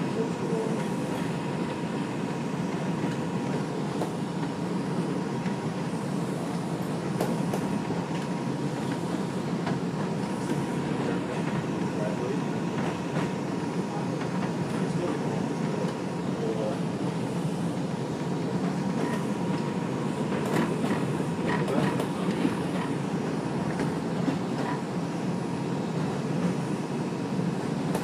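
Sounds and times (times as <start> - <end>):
rumble of train wheels on rail: 0.0 - 28.0.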